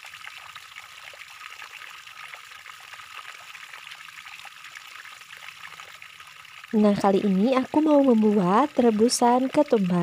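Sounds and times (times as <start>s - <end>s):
water trickling and splashing: 0.0s - 10.0s.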